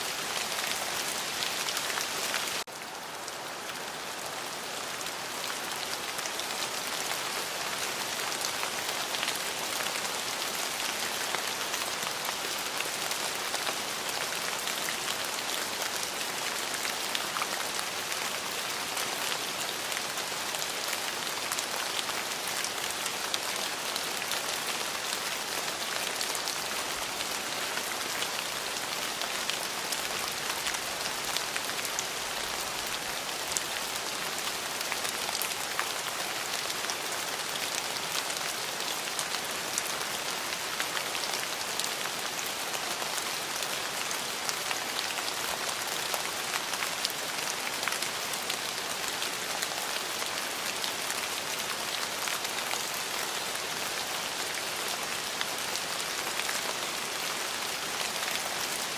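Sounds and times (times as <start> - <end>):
rain drops ticking on a surface: 0.0 - 58.9.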